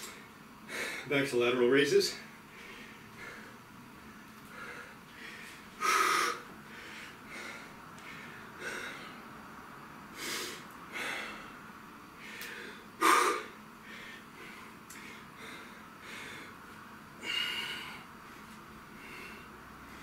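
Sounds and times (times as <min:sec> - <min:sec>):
man breathing hard: 0:00.0 - 0:01.1, 0:02.4 - 0:09.3, 0:10.1 - 0:20.0.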